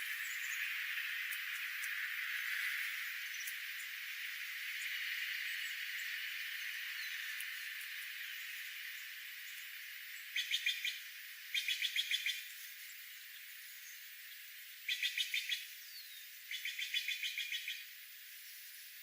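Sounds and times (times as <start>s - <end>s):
songbird chirping: 0.0s - 19.0s
steady background hiss: 0.0s - 19.0s.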